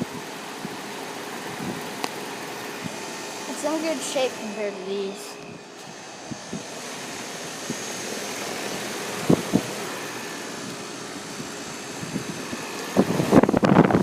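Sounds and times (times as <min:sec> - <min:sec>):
heat pump whooshing hum: 0:00.0 - 0:14.0
irregular rumbling buffeting: 0:00.0 - 0:14.0.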